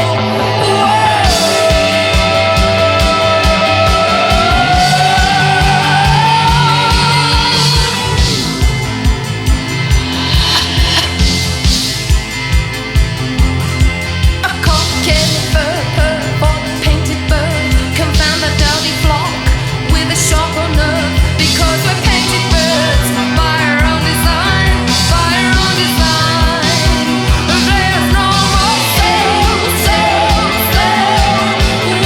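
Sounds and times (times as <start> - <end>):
rock song: 0.0 - 32.0
drum kit beat: 1.2 - 32.0.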